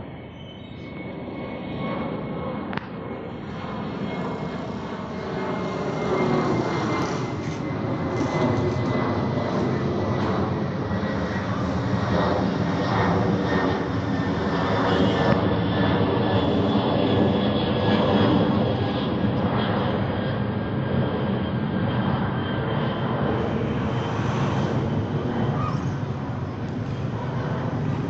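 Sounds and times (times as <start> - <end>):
high whining jet tones: 0.0 - 28.0
jet engines rumbling overhead: 0.0 - 28.0.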